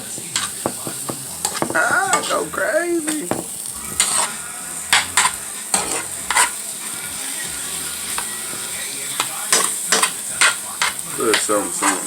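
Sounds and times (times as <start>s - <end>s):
food sizzling in frying pan: 0.0s - 12.0s
utensil scraping a pan: 0.0s - 12.0s.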